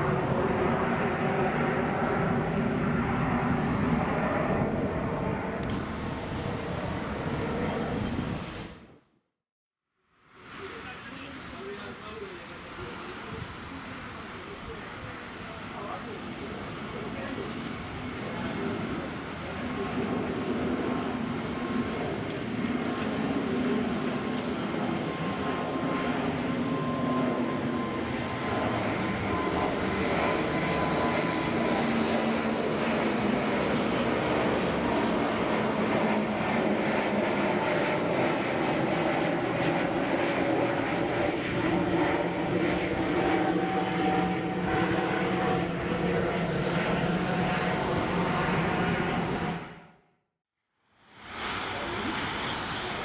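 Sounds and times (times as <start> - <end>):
jet engines rumbling with whine: 0.0 - 9.0, 10.5 - 50.0, 51.1 - 53.0.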